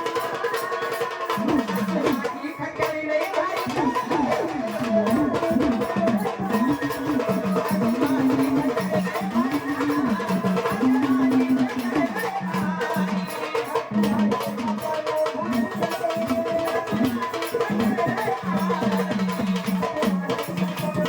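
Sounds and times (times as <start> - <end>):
steady drum percussion: 0.0 - 21.0
woman singing devotional song: 0.0 - 21.0.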